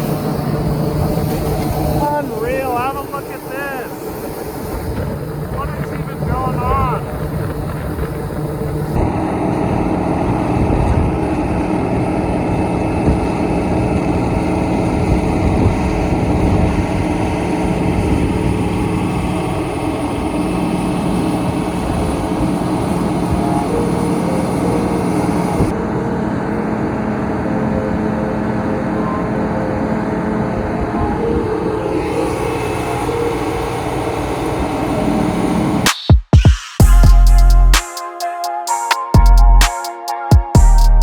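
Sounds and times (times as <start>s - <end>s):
diesel machinery engine running: 0.0s - 35.9s, 36.8s - 37.8s.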